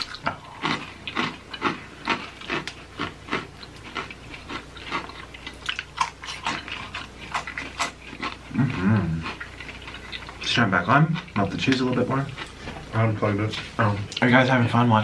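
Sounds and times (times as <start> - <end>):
chewing crunchy snack food: 0.0 - 12.7.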